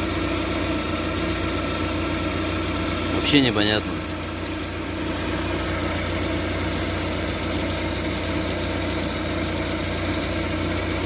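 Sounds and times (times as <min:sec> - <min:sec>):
alternator belt drive running: 0:00.0 - 0:11.0
car engine idling: 0:00.0 - 0:11.0.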